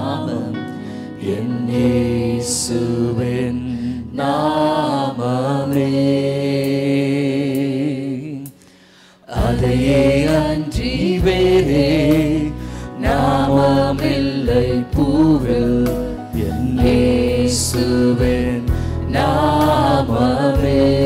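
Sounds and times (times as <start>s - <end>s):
worship music: 0.0s - 21.0s.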